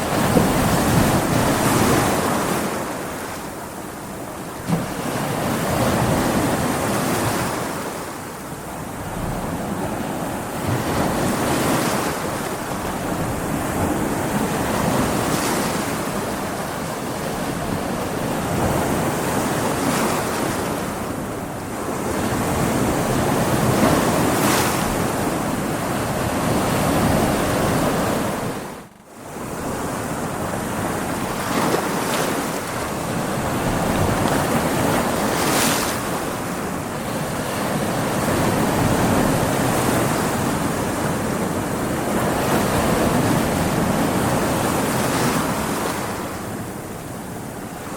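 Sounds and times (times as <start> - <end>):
waves breaking: 0.0 - 47.9
wind: 0.0 - 47.9.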